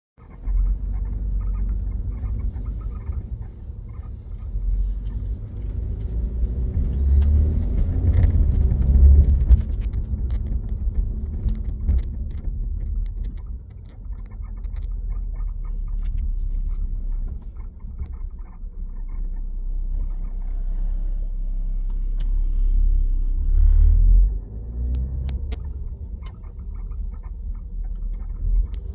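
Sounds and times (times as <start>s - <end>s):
low road rumble in car: 0.2s - 28.9s.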